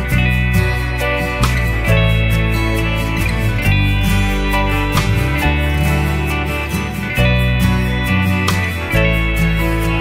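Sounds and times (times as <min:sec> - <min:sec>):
guitar instrumental music: 0:00.0 - 0:10.0.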